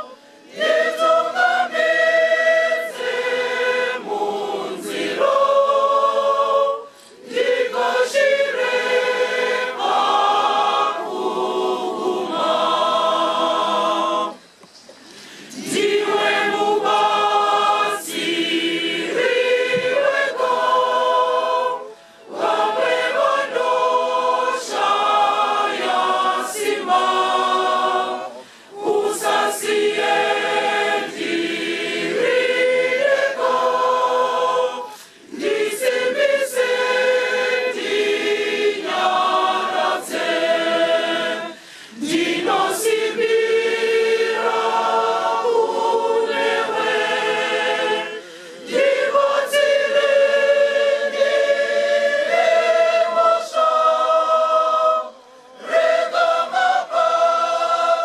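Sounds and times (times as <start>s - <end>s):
women's choir singing a hymn: 0.0s - 58.0s.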